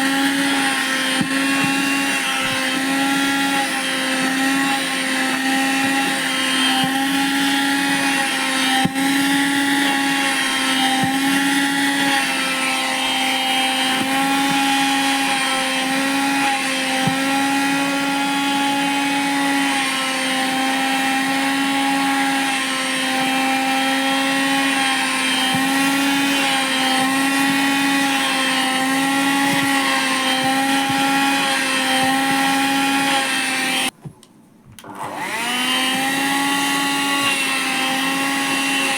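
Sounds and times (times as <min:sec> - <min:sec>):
vacuum cleaner motor whining: 0:00.0 - 0:34.0, 0:34.8 - 0:38.9.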